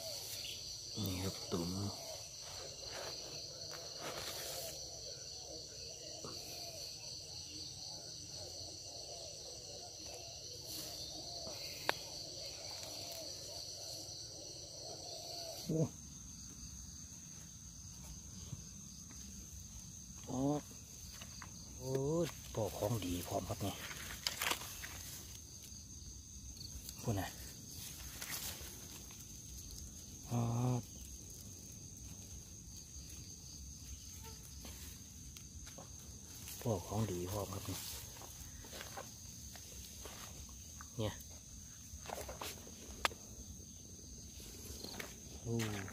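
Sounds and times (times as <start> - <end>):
crickets chirping: 0.0 - 45.9
night insects trilling: 0.0 - 45.9.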